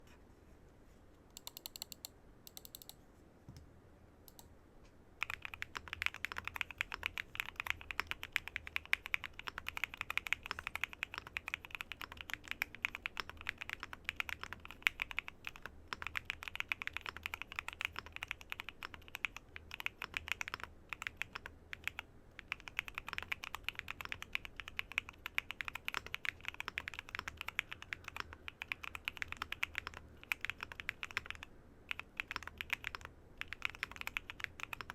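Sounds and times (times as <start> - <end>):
typing on mechanical keyboard: 1.4 - 3.0, 5.2 - 34.9.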